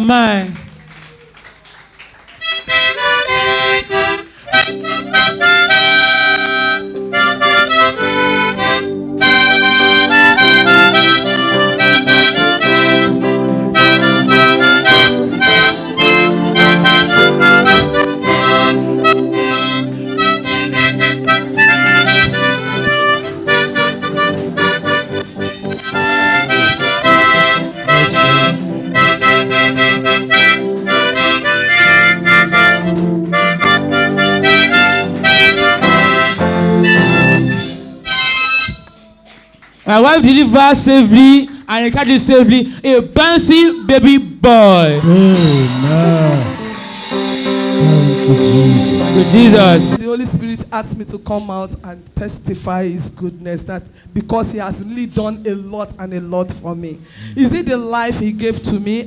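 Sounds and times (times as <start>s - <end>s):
instrumental church music: 0.2s - 50.1s.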